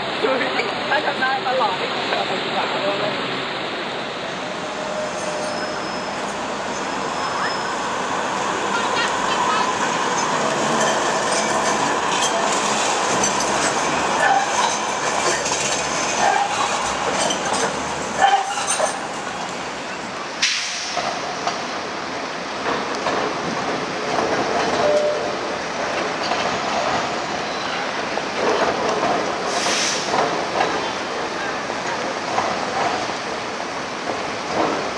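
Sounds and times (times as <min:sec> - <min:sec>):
city street noise: 0:00.0 - 0:34.9
tram wheels on rail: 0:00.0 - 0:34.9.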